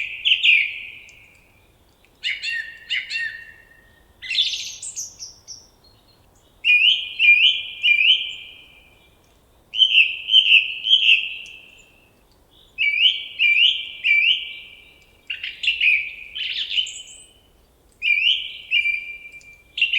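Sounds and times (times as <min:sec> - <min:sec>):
songbird singing: 0:00.0 - 0:19.9.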